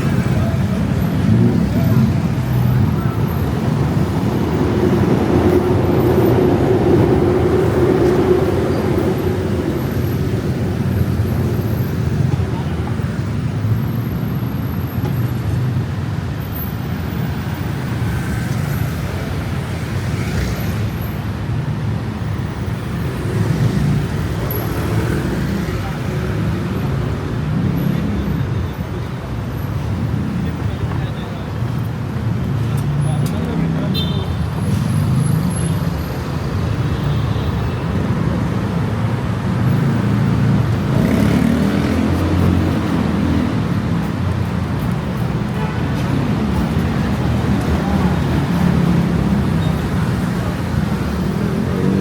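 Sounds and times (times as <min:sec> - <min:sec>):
city road traffic rumble: 0:00.0 - 0:52.0.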